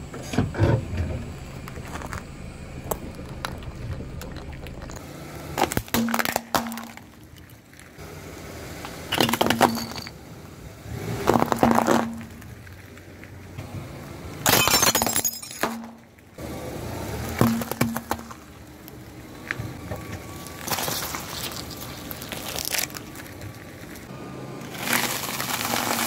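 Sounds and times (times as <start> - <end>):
car low rumble: 0.0 - 26.0
objects crunching under tyre: 0.2 - 8.0, 8.8 - 10.2, 10.9 - 13.6, 14.4 - 26.0.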